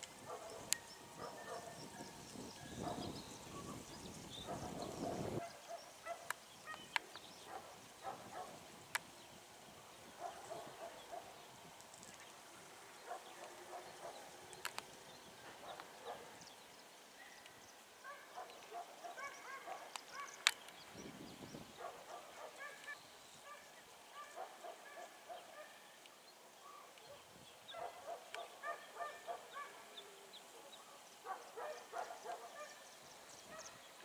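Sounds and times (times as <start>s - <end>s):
sharp clicky bird calls: 0.0s - 9.4s, 13.0s - 21.2s, 21.8s - 34.0s.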